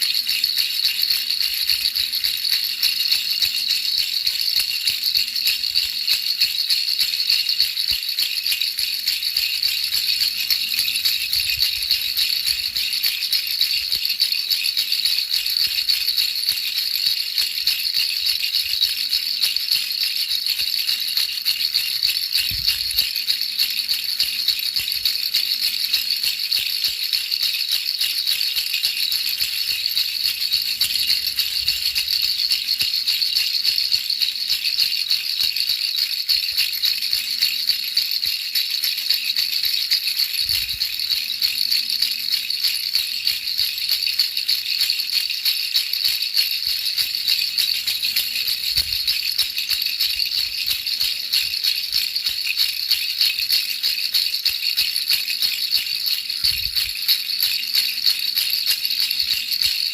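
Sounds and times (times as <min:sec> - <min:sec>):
baby rattle shaken: 0:00.0 - 0:59.9.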